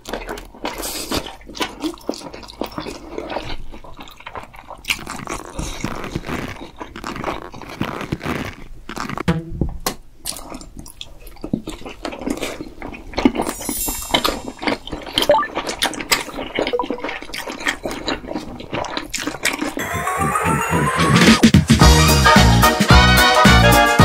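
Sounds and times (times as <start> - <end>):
wet chewing and smacking: 0.0 - 9.3, 9.9 - 19.8.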